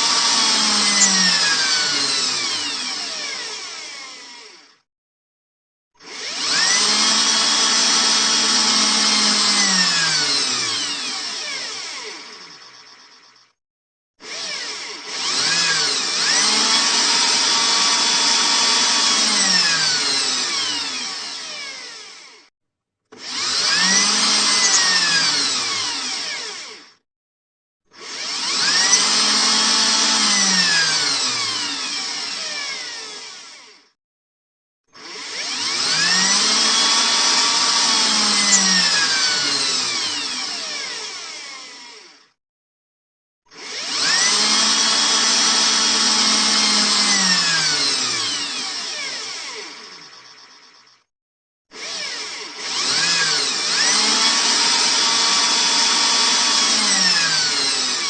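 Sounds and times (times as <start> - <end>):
electric drill running: 0.0 - 4.9, 6.0 - 13.3, 14.2 - 22.5, 23.1 - 27.0, 27.9 - 34.0, 35.0 - 42.4, 43.5 - 51.0, 51.7 - 58.0.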